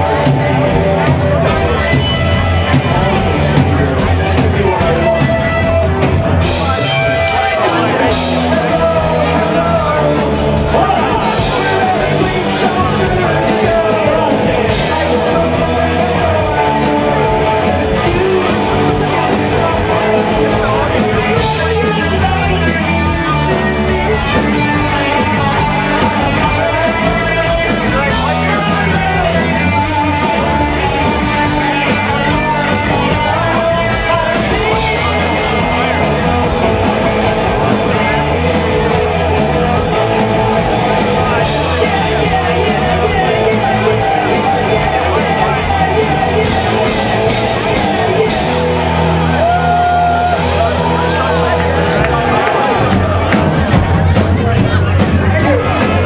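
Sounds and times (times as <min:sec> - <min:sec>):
fast drum beat: 0:00.0 - 0:56.0
live rock band playing: 0:00.0 - 0:56.0
person singing: 0:00.0 - 0:56.0.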